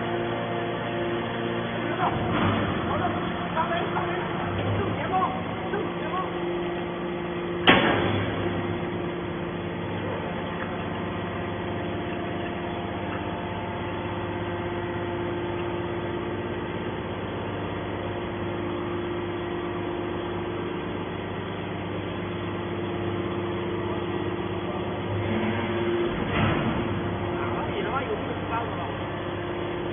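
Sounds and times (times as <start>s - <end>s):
hydraulic motor and pump hum: 0.0s - 29.9s.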